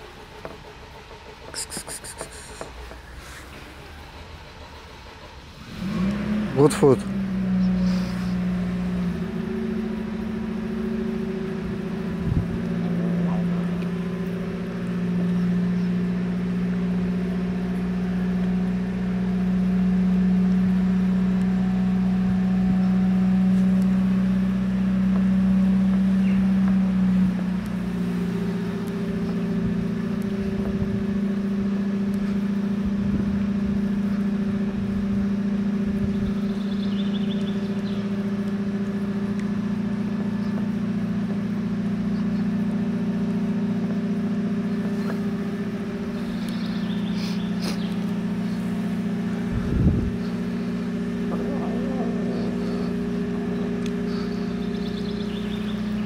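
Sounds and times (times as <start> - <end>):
low engine-like drone: 0.0 - 56.0.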